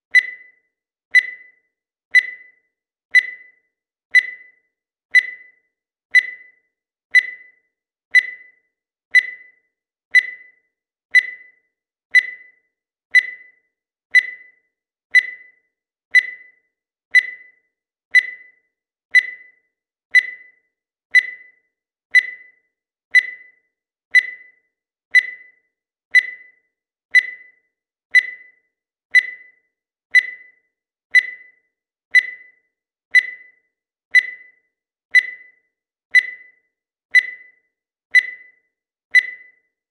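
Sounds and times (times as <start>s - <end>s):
digital timer beeping: 0.0s - 39.9s.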